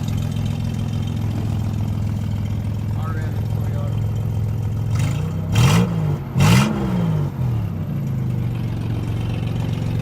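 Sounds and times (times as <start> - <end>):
engine exhaust idling and blipping: 0.0 - 10.0.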